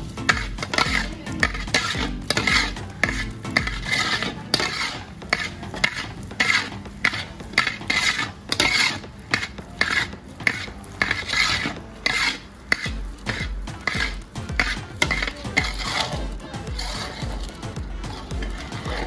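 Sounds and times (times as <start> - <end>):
spatula scraping a pan: 0.0 - 19.0.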